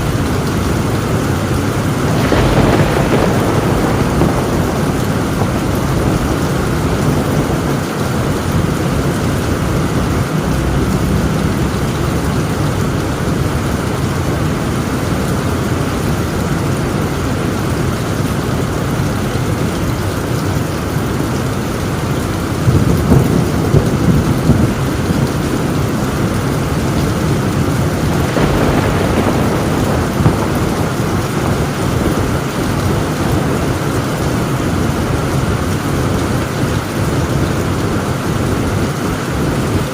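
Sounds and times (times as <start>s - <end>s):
heavy rain on a tin roof: 0.0s - 39.9s
low rumble of thunder: 0.0s - 39.9s.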